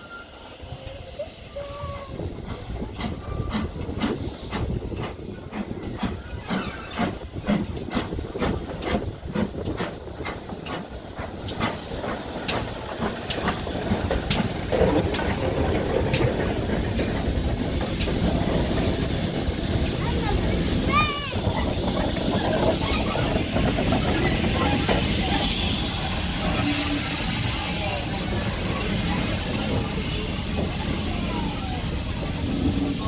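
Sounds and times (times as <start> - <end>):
steady hiss of steam: 0.0 - 33.0
steam locomotive exhaust beats: 0.1 - 33.0.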